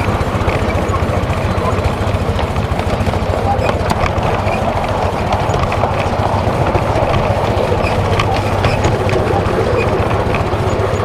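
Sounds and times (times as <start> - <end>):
miniature steam locomotive running: 0.0 - 11.0
wheels clicking on rails: 0.0 - 11.0.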